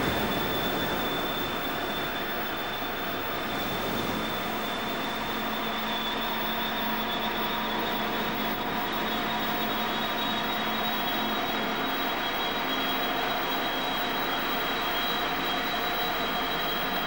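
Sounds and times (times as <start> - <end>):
churning sea: 0.0 - 17.0
faint high whine: 0.0 - 17.0
machinery hum: 0.0 - 17.0.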